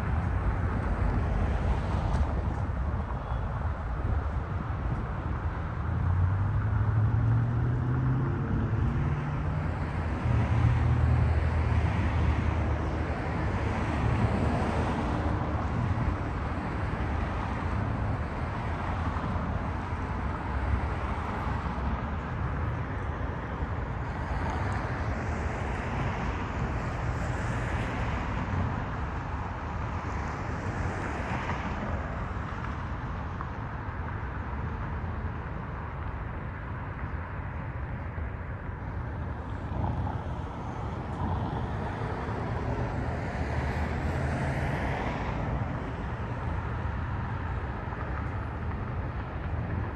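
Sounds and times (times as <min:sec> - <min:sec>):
car engines humming: 0:00.0 - 0:49.9
vehicles passing: 0:00.0 - 0:49.9.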